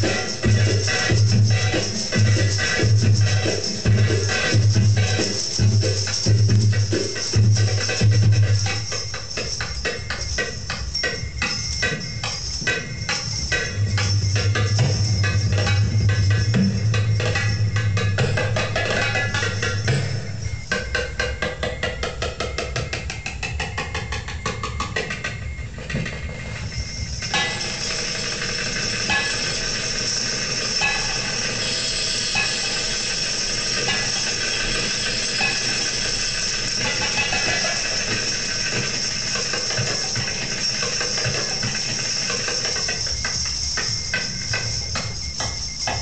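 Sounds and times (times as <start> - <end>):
goblet drum playing: 0.0 - 46.0.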